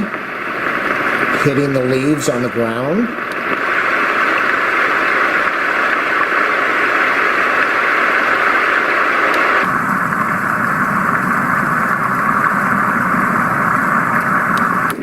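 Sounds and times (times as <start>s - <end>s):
low dull noise: 0.0s - 15.0s
white noise machine rain hiss: 0.0s - 15.0s.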